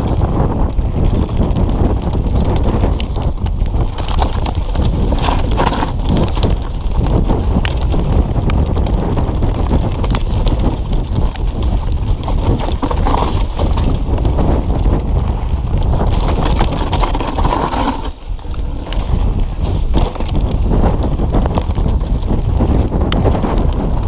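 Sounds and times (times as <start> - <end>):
bike knocks and rattles: 0.0 - 24.0
bike tyres rumbling on dirt: 0.0 - 24.0
wind buffeting microphone: 0.0 - 24.0.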